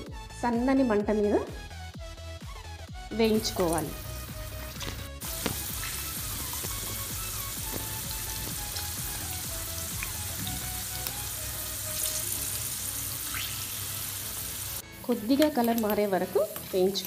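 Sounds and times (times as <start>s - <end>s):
oil sizzling while deep-frying: 3.3s - 17.0s.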